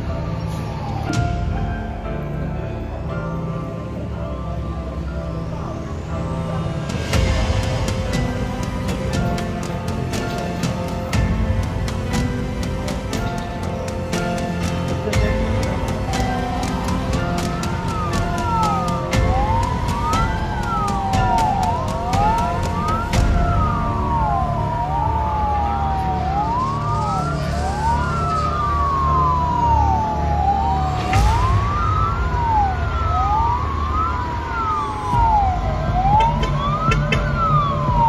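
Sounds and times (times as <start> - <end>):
fire engine sirens wailing: 0.0 - 38.0
low rumble: 0.0 - 38.0.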